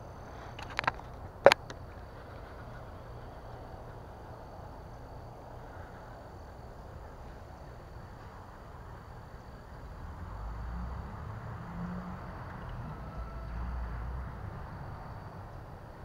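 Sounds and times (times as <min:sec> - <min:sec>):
faint insect tones: 0:00.0 - 0:16.0.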